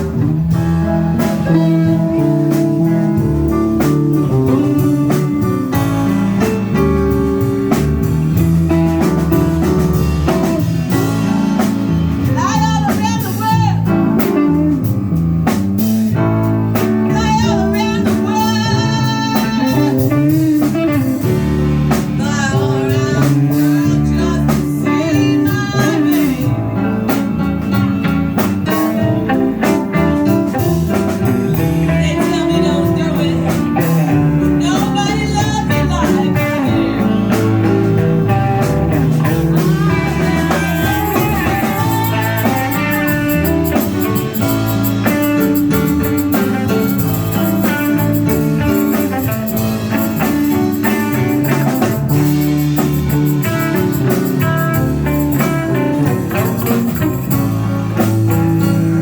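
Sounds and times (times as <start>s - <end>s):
live blues band: 0.0s - 59.0s.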